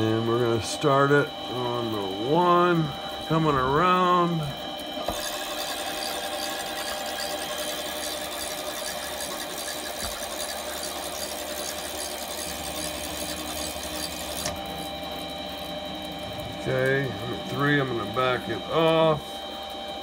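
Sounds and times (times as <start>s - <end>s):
metal lathe whirring: 0.0s - 20.0s.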